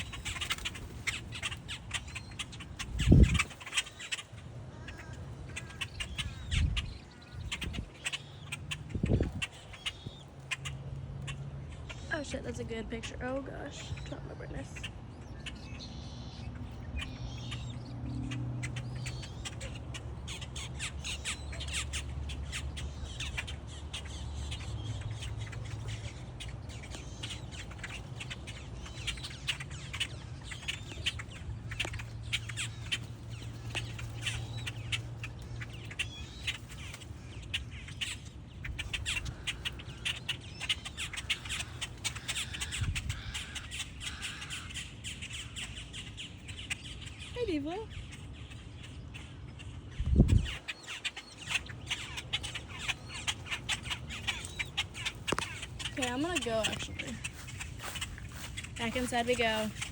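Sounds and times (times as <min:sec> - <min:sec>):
moorhens calling: 0:00.0 - 0:59.9.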